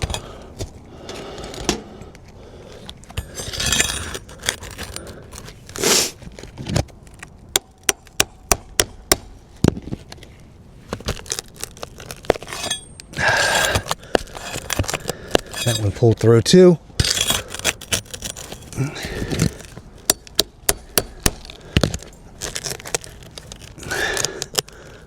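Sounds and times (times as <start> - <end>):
pry bar scraping under shingle: 0.0 - 25.0.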